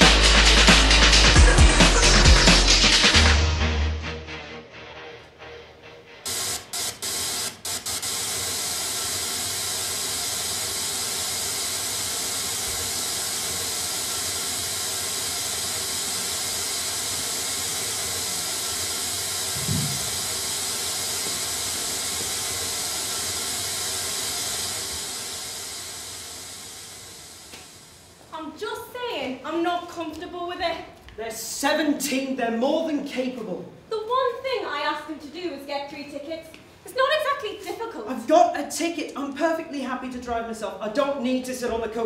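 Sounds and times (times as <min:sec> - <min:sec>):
television static hiss: 0:06.3 - 0:42.0.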